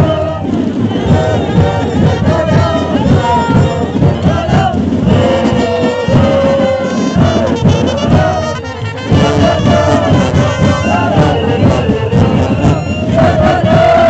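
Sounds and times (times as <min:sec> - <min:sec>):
brass band playing: 0:00.0 - 0:14.0
crowd singing along: 0:00.0 - 0:14.0.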